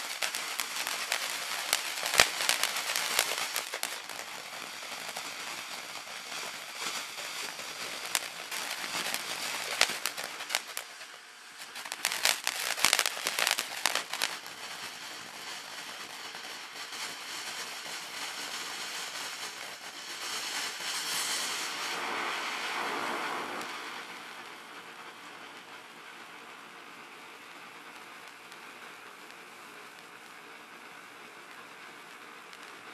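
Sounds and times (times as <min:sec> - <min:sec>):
firework crackling pops: 0:00.0 - 0:32.9
fountain firework hissing: 0:00.0 - 0:32.9.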